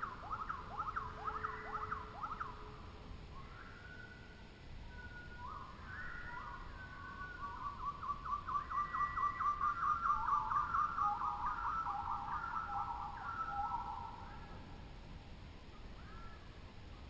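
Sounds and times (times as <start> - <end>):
birds calling in whistled notes: 0.0 - 14.7.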